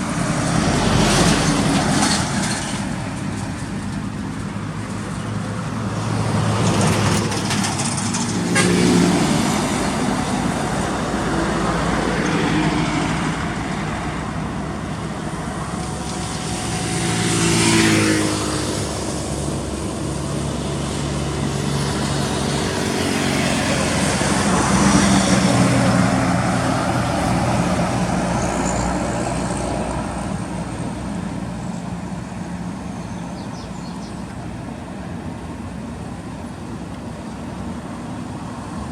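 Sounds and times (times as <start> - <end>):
diesel trucks passing on highway: 0.0 - 38.9.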